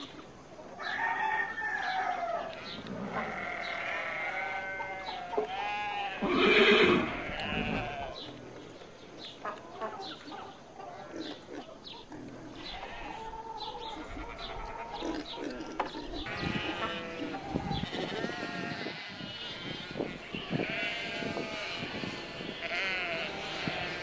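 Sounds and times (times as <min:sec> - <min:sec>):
farm animals calling: 0:00.0 - 0:24.0.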